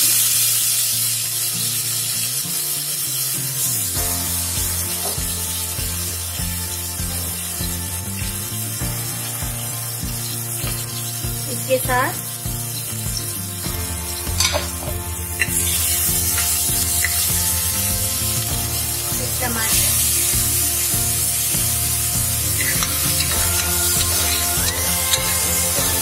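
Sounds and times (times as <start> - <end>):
hot oil sizzling: 0.0 - 26.0.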